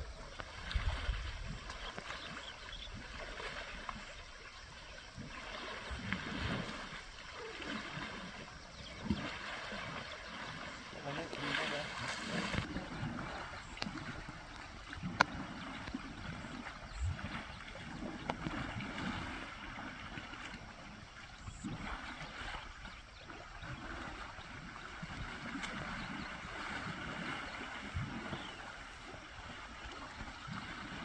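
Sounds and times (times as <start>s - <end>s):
water splashing and sloshing: 0.0s - 31.0s.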